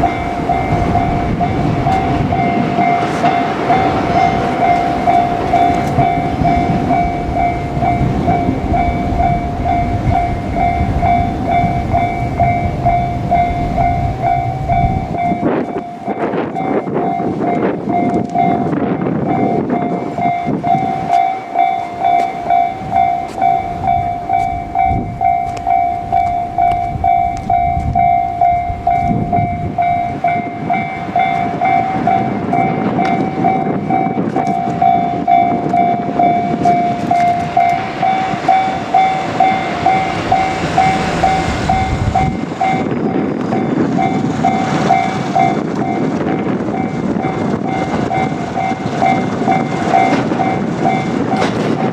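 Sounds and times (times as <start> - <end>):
electric trains passing: 0.0 - 51.9
level crossing warning bell ringing: 0.0 - 51.9
train wheels clacking over rail joints: 0.0 - 51.9.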